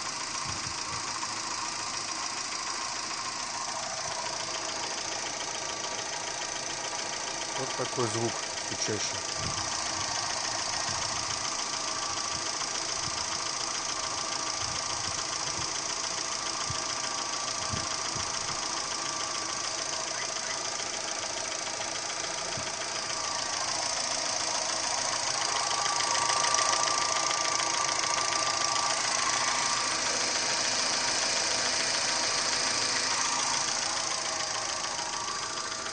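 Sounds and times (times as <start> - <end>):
petrol engine knocking tick: 0.1 - 35.9.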